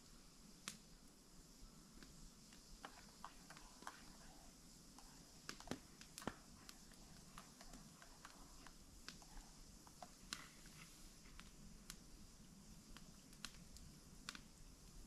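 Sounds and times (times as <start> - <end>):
campfire crackling and popping: 0.5 - 1.2, 1.9 - 15.0.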